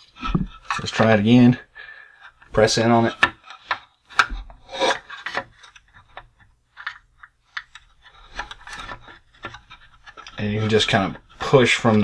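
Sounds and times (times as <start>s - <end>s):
tool scraping on plastic: 2.3s - 12.0s.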